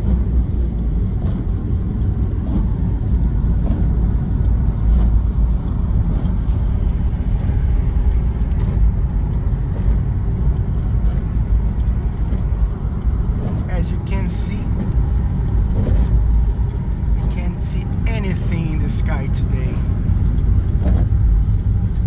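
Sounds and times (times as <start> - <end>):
car road rumble on wet road: 0.0 - 22.0.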